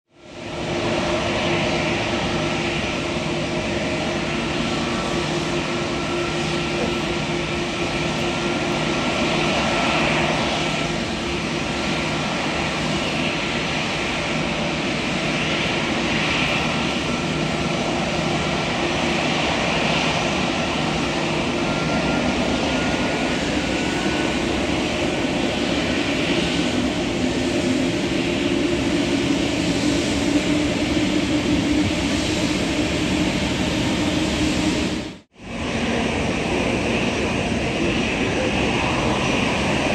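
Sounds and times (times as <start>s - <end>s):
jet engines running: 0.1s - 39.9s.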